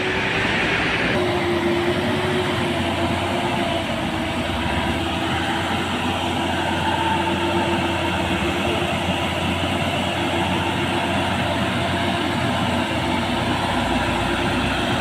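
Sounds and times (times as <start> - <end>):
heavy vehicle engine humming: 0.0 - 15.0.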